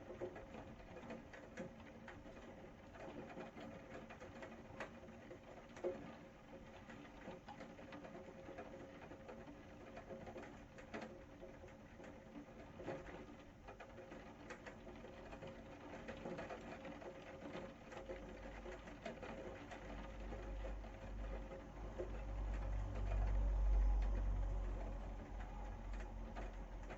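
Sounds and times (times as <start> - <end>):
rain pattering: 0.0 - 26.9.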